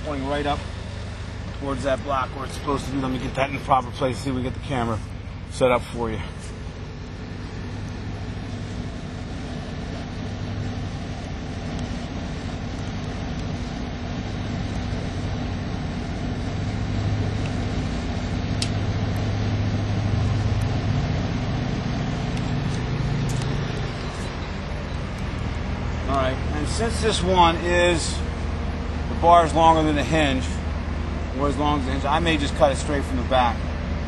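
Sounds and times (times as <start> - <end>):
engine running at low revs: 0.0 - 34.0.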